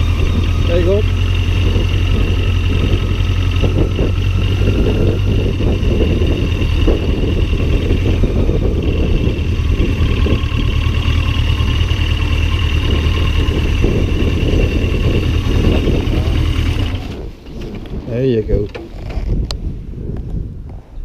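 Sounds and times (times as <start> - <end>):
motorcycle engine running: 0.0 - 18.2
wind buffeting microphone: 0.0 - 21.0.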